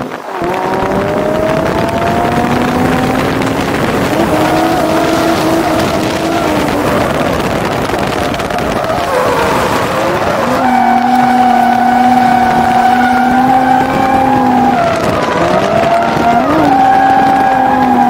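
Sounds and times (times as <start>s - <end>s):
car engine revving hard: 0.0s - 18.0s
tyres sliding: 0.2s - 18.0s.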